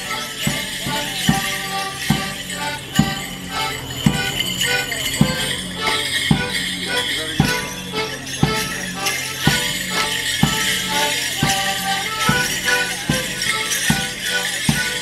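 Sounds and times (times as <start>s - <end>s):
accordion dance tune: 0.0s - 15.0s
leg bells jingling: 0.0s - 15.0s
bass drum beats: 0.4s - 15.0s.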